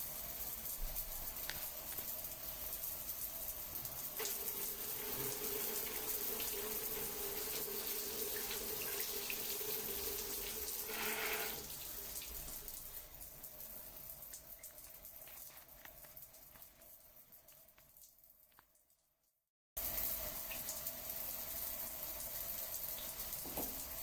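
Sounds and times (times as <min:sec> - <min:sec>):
water running: 0:00.0 - 0:19.0, 0:19.8 - 0:24.0.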